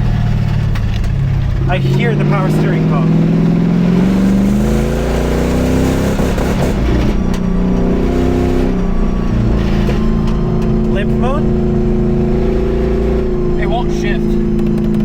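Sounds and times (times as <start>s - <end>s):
car engine revving loud exhaust: 0.0s - 15.0s.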